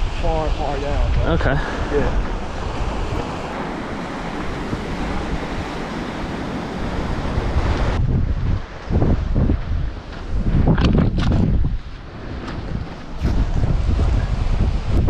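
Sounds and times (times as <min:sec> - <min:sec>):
waves washing onto beach: 0:00.0 - 0:15.0
wind buffeting microphone: 0:00.0 - 0:15.0.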